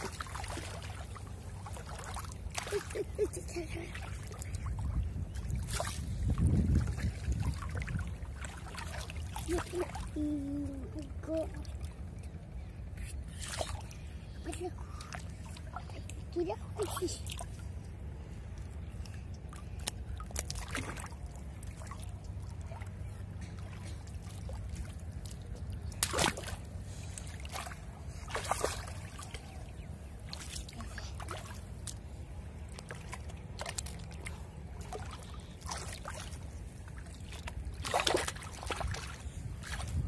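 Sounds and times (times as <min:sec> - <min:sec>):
muddy water sloshing: 0:00.0 - 0:40.0
steady low rumble: 0:00.0 - 0:40.0.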